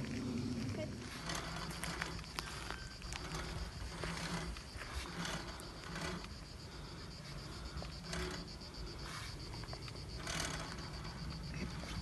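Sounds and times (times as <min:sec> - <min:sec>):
insects chirring: 0:00.0 - 0:12.0
soft rustles: 0:00.0 - 0:12.0.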